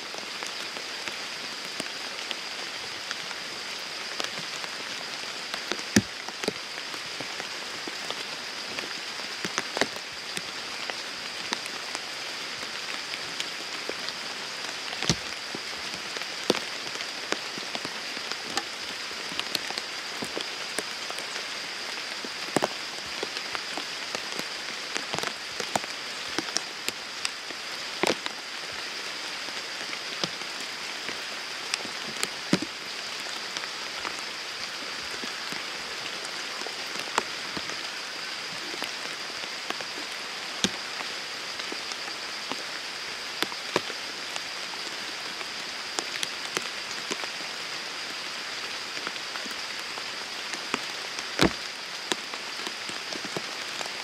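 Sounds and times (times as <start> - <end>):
steady rain hiss: 0.0 - 54.0
heavy raindrops striking: 3.0 - 47.4, 49.0 - 54.0.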